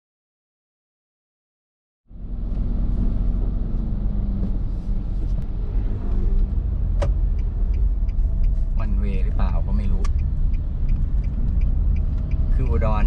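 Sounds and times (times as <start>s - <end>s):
car cabin road rumble: 2.1s - 13.0s.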